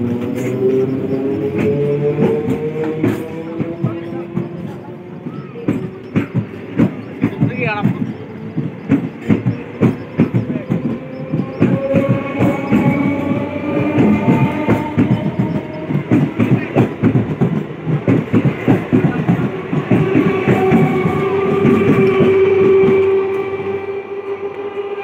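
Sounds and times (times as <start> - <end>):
train wheels clattering: 0.0 - 24.9
faint train whine: 0.0 - 25.0.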